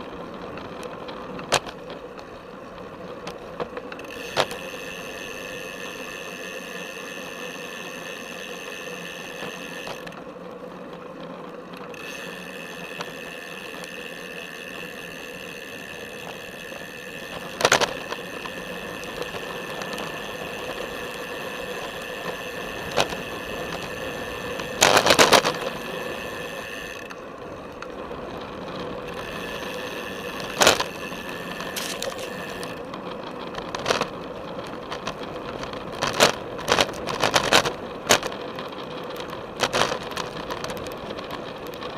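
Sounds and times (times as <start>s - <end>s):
bicycle drivetrain buzz: 0.0s - 41.9s.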